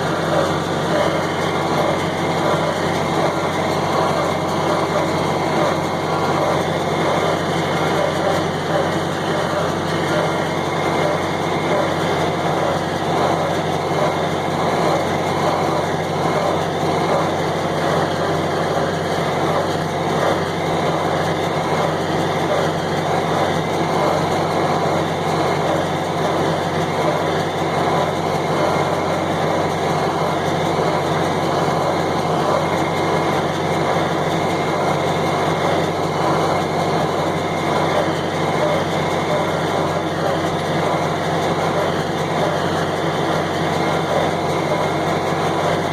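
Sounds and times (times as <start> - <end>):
square baler running: 0.0 - 45.9
tractor running: 0.0 - 45.9.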